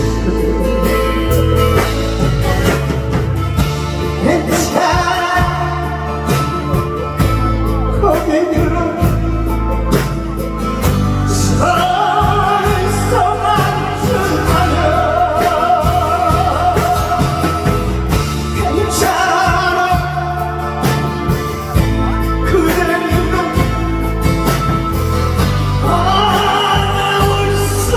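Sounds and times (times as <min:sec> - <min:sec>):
person singing amplified: 0:00.0 - 0:02.0, 0:04.0 - 0:10.2, 0:11.2 - 0:24.7, 0:25.7 - 0:27.9
backing track with steady beat: 0:00.0 - 0:27.9.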